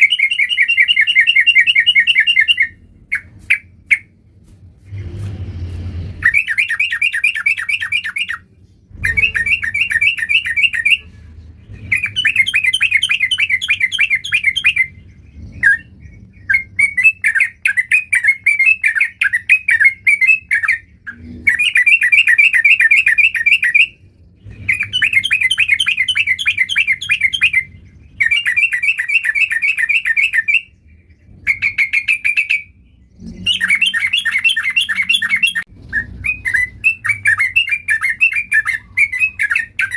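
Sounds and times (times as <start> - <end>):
bird singing warbling phrases: 0.0 - 4.1, 6.2 - 39.9.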